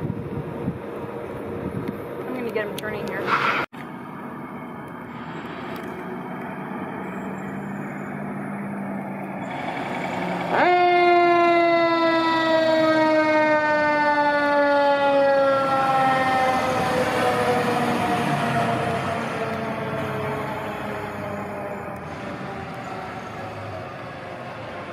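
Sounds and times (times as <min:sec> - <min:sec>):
fire engine road noise: 0:00.0 - 0:24.9
fire engine siren: 0:03.3 - 0:24.9.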